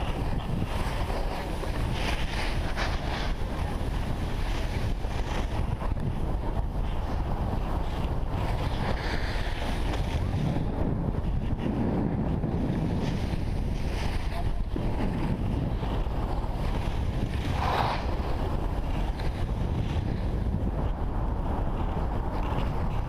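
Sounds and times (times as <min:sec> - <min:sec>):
skis sliding on snow: 0:00.0 - 0:23.0
wind buffeting microphone: 0:00.0 - 0:23.0.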